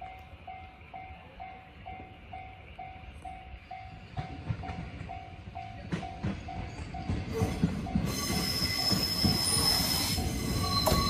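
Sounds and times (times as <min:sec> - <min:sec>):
approaching train rumble: 0:00.0 - 0:11.0.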